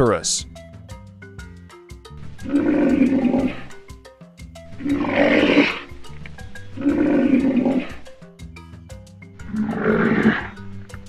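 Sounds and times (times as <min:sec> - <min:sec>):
light music with plucked notes: 0:00.0 - 0:11.0
rhinoceros calling: 0:00.0 - 0:11.0.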